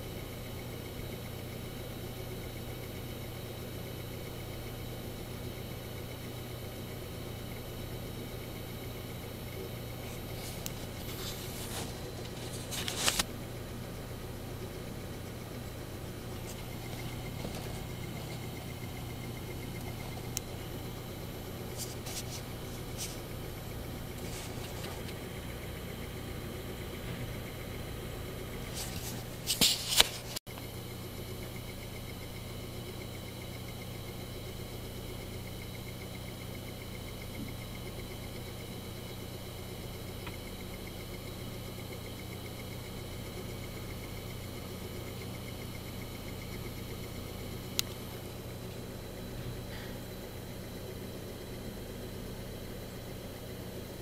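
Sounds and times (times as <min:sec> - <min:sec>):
hard drive head ticking: 0:00.0 - 0:54.0
hard drive humming: 0:00.0 - 0:54.0.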